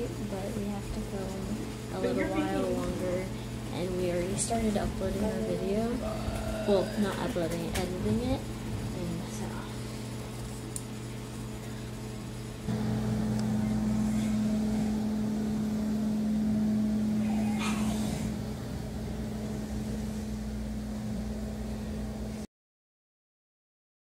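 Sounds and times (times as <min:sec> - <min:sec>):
low mechanical hum: 0:00.0 - 0:22.5.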